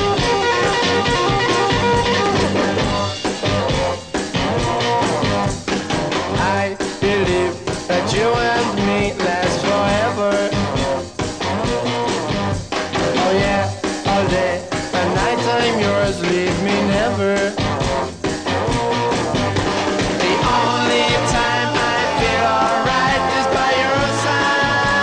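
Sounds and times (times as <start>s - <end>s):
drums playing steady beat: 0.0s - 25.0s
electric guitar: 0.0s - 25.0s
rock music: 0.0s - 25.0s.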